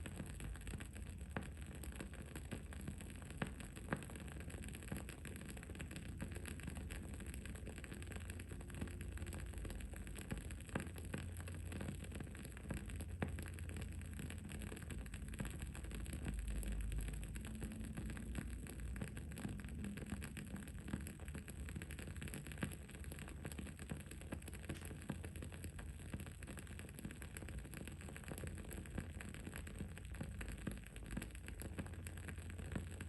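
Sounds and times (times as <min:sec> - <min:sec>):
candle wick crackling and popping: 0:00.0 - 0:33.0.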